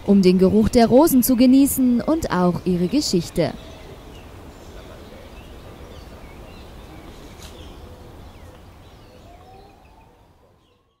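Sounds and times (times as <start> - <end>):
small birds chirping: 0.6 - 11.0.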